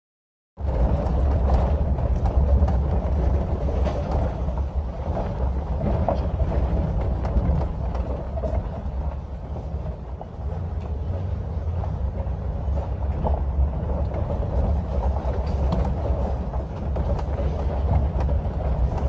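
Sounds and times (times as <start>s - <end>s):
small knocks and rattles: 0.6s - 19.0s
tyres rolling over gravel: 0.6s - 19.0s
vehicle engine rumble: 0.6s - 19.0s.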